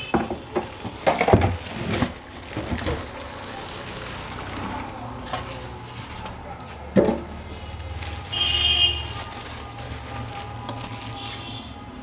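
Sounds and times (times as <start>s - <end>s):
plastic bag crinkling: 0.0s - 12.0s
styrofoam creaking and scraping: 0.0s - 12.0s.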